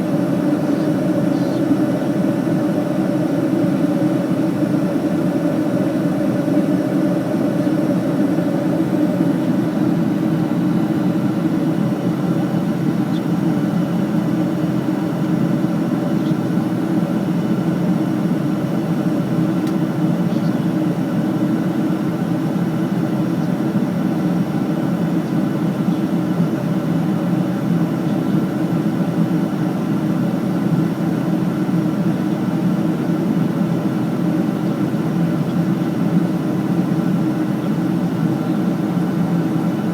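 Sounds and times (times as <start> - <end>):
airflow rush and engine drone: 0.0 - 39.9.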